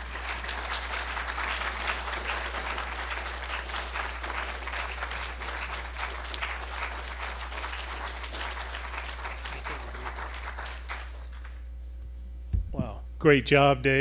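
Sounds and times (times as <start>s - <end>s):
audience applauding: 0.0s - 11.6s
low steady hum: 0.0s - 14.0s.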